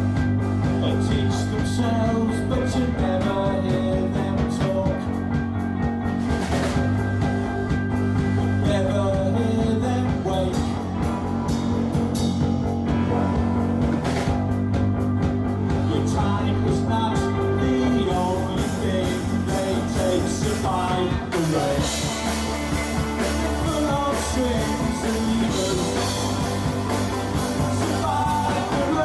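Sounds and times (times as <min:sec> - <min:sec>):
bass: 0:00.0 - 0:29.0
drums: 0:00.0 - 0:29.0
electric guitar: 0:00.0 - 0:29.0.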